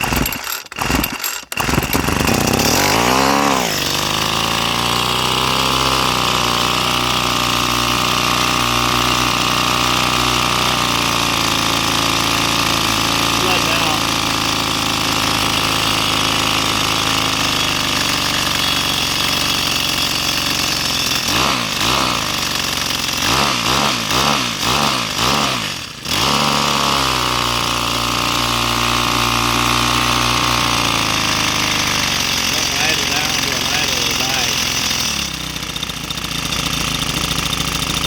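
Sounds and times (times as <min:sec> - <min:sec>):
string trimmer engine revving: 0:00.0 - 0:38.0.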